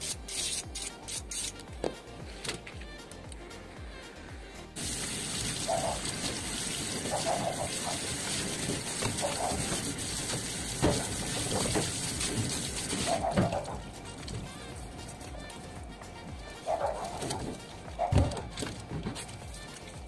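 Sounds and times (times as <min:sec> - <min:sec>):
shower sprayer hissing: 0:00.0 - 0:01.6, 0:04.8 - 0:20.0.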